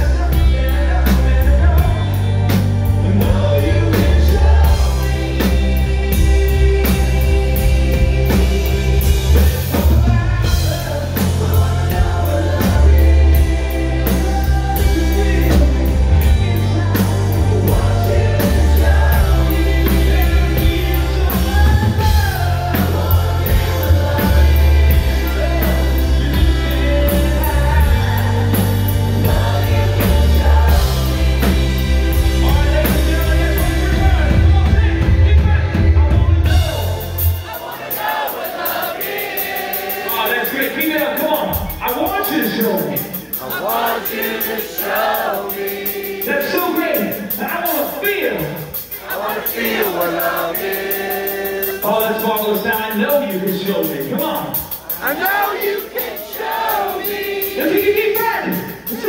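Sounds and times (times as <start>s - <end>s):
loud drums: 0.0s - 59.0s
person singing: 0.0s - 59.0s
rock band playing: 0.0s - 59.0s.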